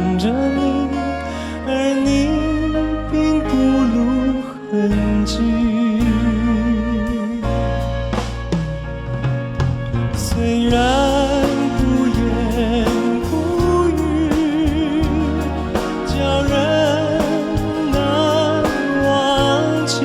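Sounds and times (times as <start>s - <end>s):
slow instrumental ballad: 0.0s - 20.0s.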